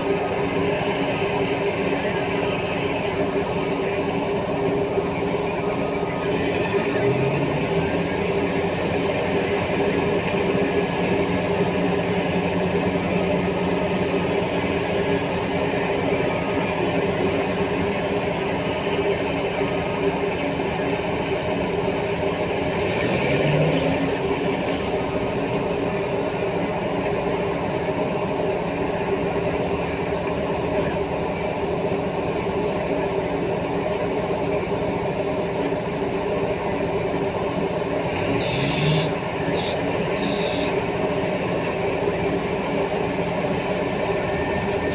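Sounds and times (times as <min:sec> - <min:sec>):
heavy diesel engines running: 0:00.0 - 0:44.9.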